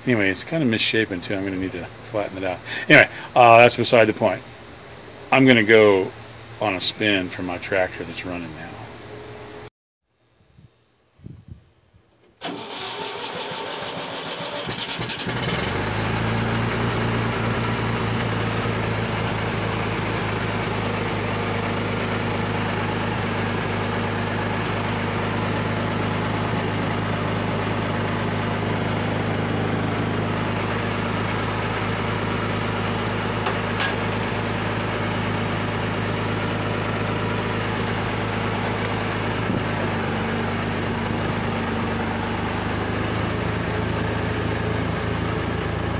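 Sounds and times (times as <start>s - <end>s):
tractor engine starting and running: 0.0s - 9.7s, 12.2s - 45.9s.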